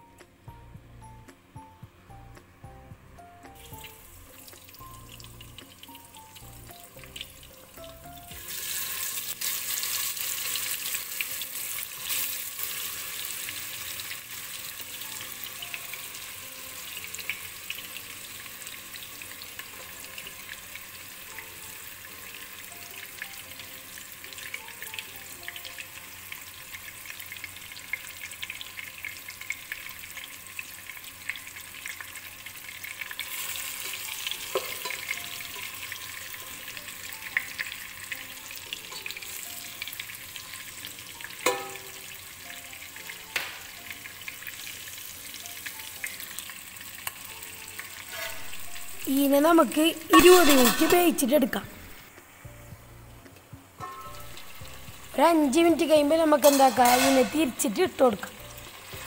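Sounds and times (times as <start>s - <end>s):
chicken sizzling in hot oil: 3.4s - 59.0s.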